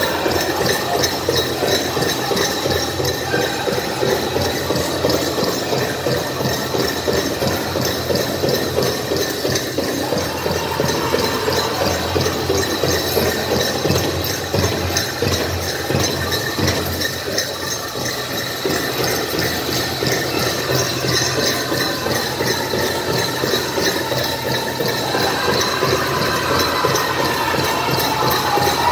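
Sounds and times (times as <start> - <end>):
big drum beating steadily: 0.0 - 28.9.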